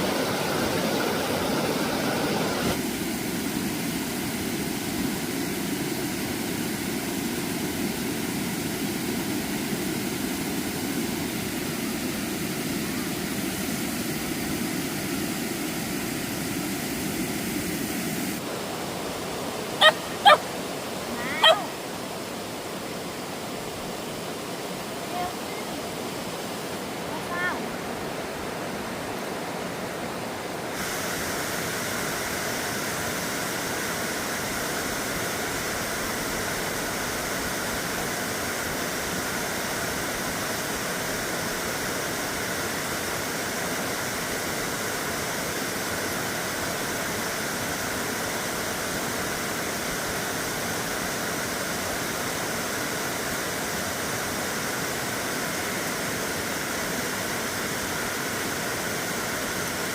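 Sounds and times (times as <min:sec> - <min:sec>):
water rushing in a stream: 0:00.0 - 0:59.9.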